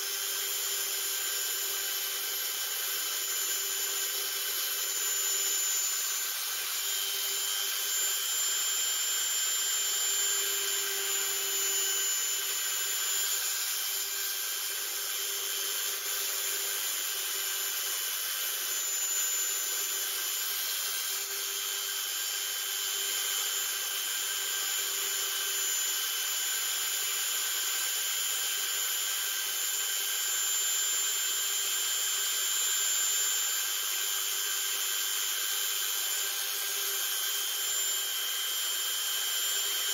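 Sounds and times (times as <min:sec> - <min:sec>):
rotary tool grinding wood: 0:00.0 - 0:39.9.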